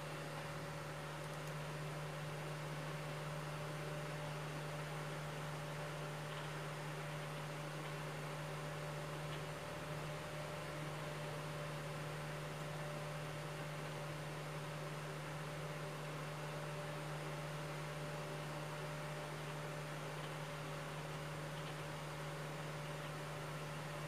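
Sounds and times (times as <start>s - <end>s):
small fan humming: 0.0s - 24.0s.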